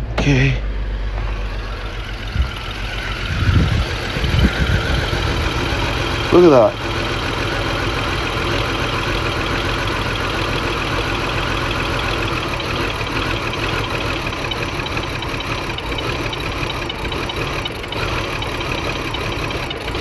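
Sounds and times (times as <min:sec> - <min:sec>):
engine idling with misfire: 0:00.0 - 0:20.0.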